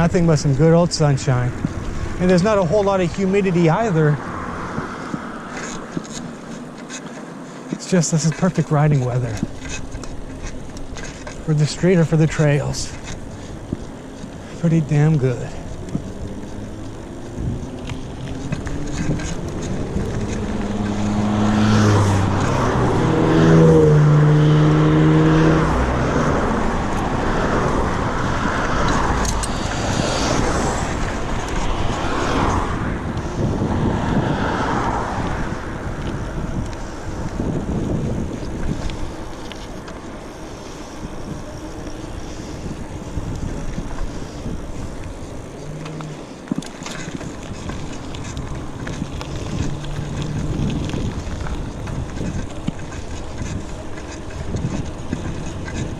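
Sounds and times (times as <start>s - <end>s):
vehicle engine passing: 0.0s - 7.3s, 8.0s - 55.9s
tyre and wind noise: 0.0s - 55.9s.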